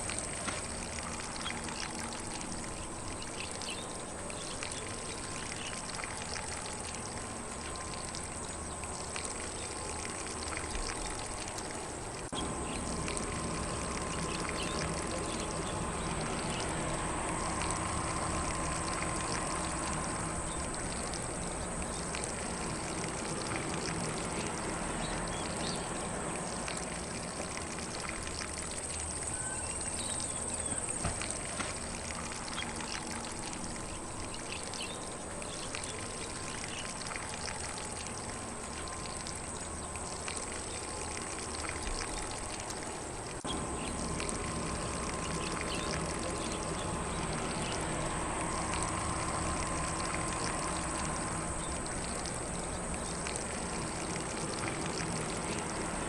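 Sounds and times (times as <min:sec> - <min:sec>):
sprinkler spraying water on grass: 0:00.0 - 0:56.0.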